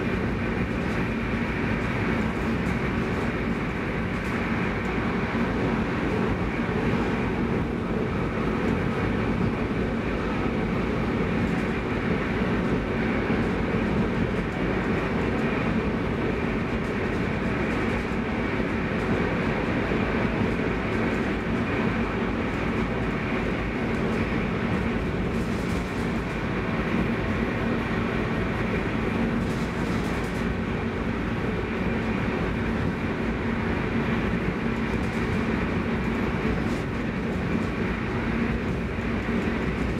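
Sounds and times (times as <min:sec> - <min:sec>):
train running noise from inside: 0:00.0 - 0:39.9.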